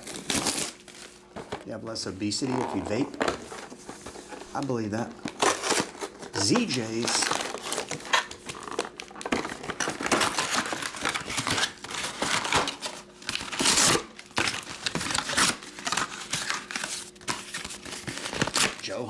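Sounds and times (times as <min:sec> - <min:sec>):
plastic packaging crinkling: 0:00.0 - 0:19.0
plastic tearing: 0:00.0 - 0:19.0.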